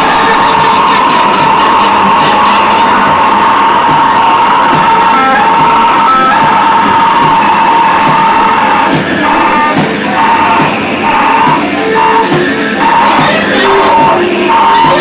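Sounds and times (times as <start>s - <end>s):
distorted electric guitar noise: 0.0s - 15.0s
shrill whine: 0.0s - 15.0s.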